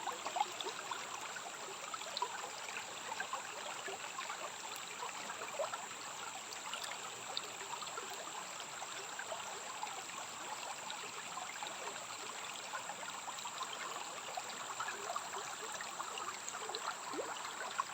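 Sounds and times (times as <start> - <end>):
stream water trickling: 0.0 - 17.9.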